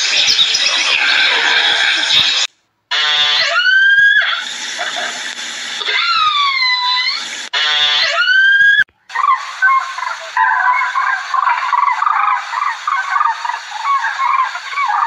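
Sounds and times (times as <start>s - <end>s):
dolphin whistles: 0.0s - 4.5s, 5.9s - 15.0s.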